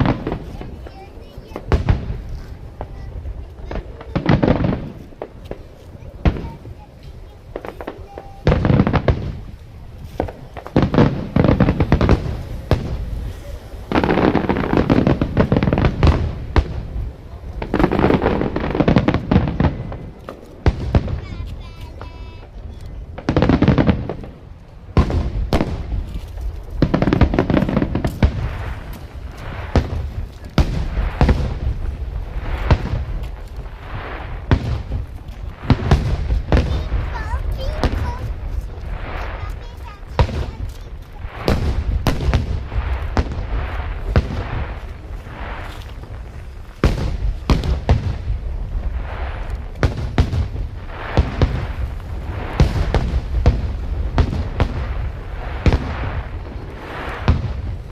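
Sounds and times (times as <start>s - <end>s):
fireworks bursting with bangs: 0.0s - 57.9s
fireworks crackling: 0.0s - 57.9s.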